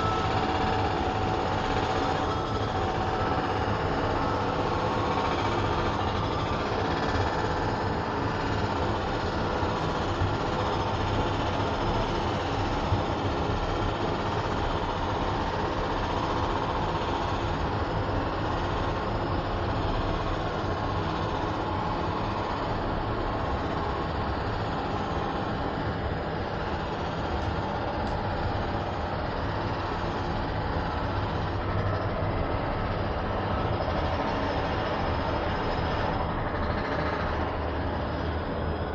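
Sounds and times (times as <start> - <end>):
cable car rumble and hum: 0.0 - 38.9.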